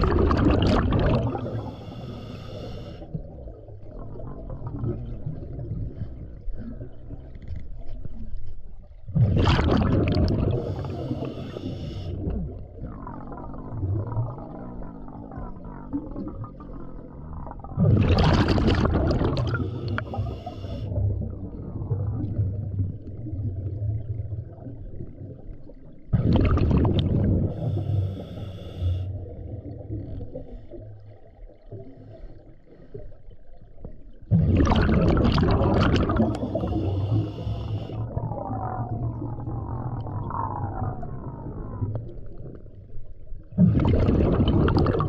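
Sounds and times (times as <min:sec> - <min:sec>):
exhaled bubbles underwater: 0:00.0 - 0:45.0
low underwater rumble: 0:00.0 - 0:45.0.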